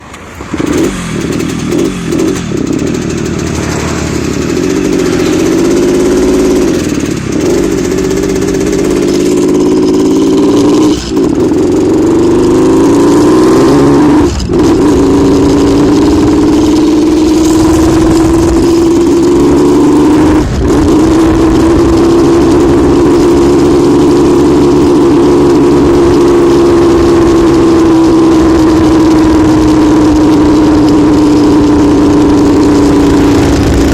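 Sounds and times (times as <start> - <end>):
motorcycle engine at high revs: 0.0 - 33.9.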